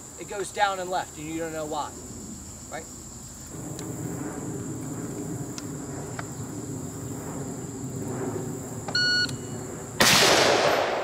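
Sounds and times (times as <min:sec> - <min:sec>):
insects buzzing: 0:00.0 - 0:11.0
low background rumble: 0:01.0 - 0:10.8.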